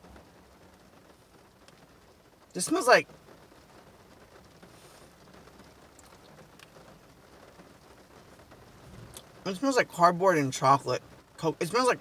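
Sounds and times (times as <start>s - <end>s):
rain on a car roof: 0.0s - 12.0s.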